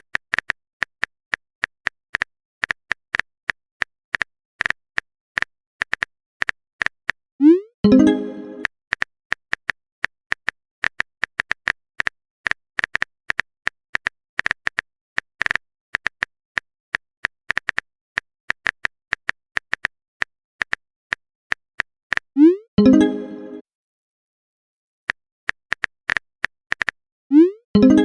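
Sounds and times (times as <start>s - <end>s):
on-screen keyboard typing clicks: 0.0s - 23.6s, 25.1s - 28.0s.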